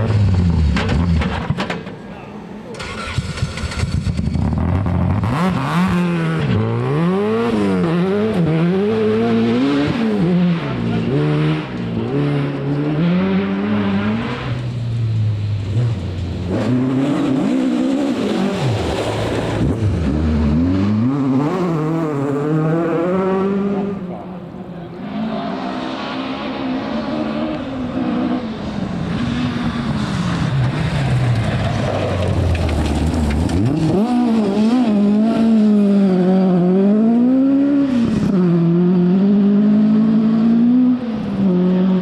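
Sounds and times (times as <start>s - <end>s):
rally car engine revving: 2.7s - 42.0s.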